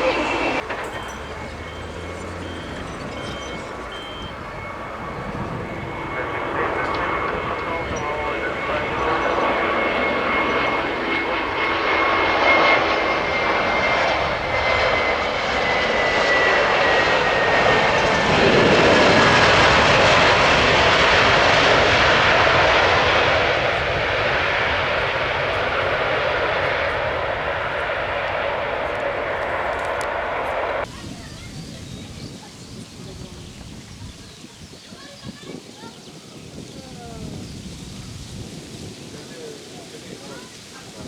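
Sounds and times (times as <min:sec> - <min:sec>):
airliner engines rushing past: 0:00.0 - 0:41.0
jet engine high whine: 0:00.0 - 0:41.0.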